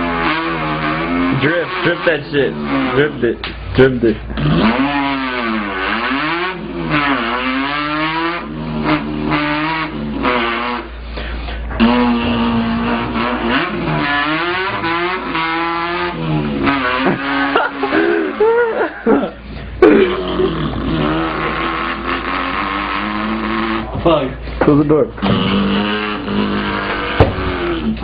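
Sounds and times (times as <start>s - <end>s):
man imitating car engine: 0.0s - 28.0s.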